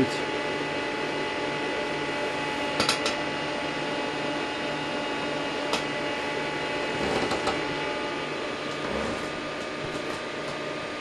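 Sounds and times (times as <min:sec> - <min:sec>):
cooling fans whirring: 0:00.0 - 0:11.0
electrical whine: 0:00.0 - 0:11.0.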